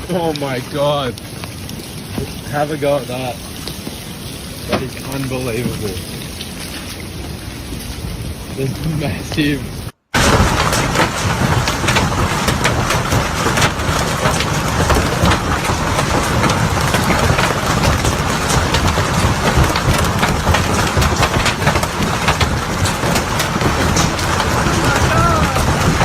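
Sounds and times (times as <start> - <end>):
hailstones clattering on hard surfaces: 0.0 - 6.2, 10.2 - 26.0.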